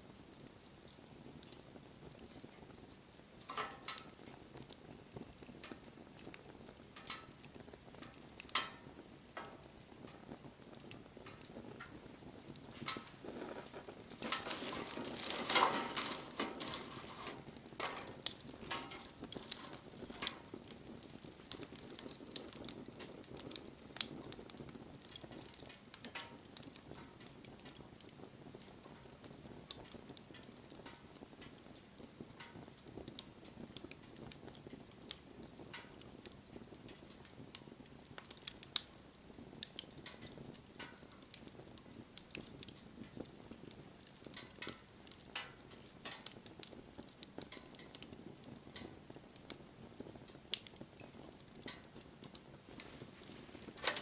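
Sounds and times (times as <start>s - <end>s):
campfire hiss: 0.0s - 54.0s
campfire pops and crackles: 0.0s - 54.0s.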